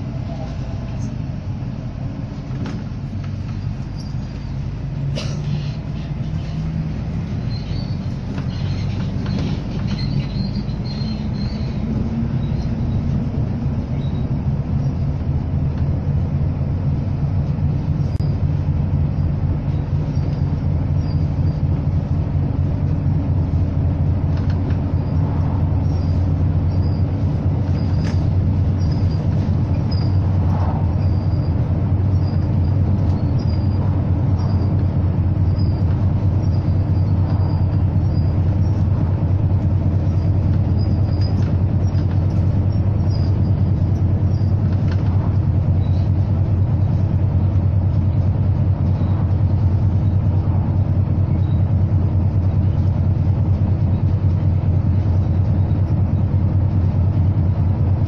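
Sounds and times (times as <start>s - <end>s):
bus engine droning: 0.0s - 58.0s.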